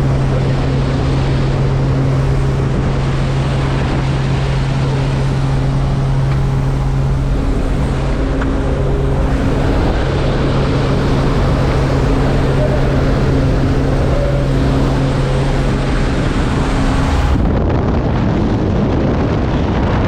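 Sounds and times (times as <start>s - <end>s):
motor drone: 0.0s - 20.0s.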